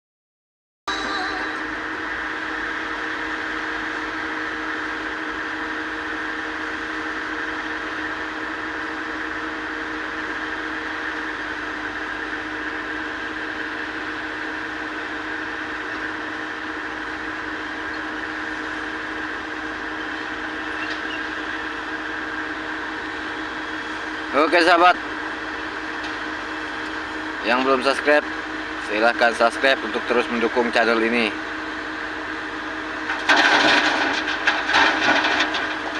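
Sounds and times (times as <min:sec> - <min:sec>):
excavator engine and hydraulics: 0:00.9 - 0:35.9.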